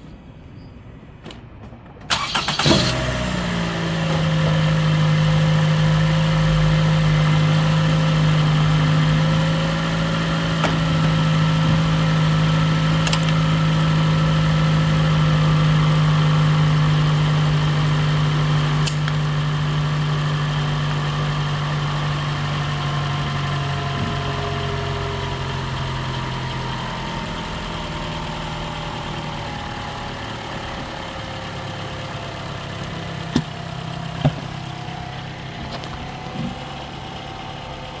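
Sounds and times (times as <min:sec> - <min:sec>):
car engine idling: 0:02.1 - 0:38.0.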